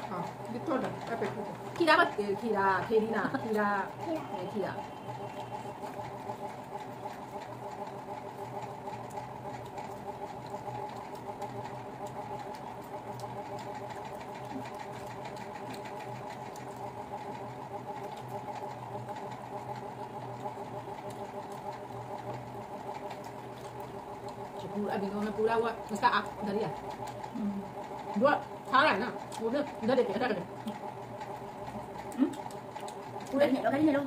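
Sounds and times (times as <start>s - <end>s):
small motor humming and rattling: 0.0s - 34.0s.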